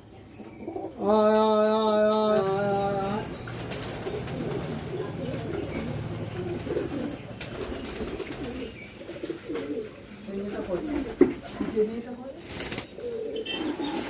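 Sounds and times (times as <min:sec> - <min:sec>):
pigeons cooing: 0:00.0 - 0:11.8, 0:12.4 - 0:14.0.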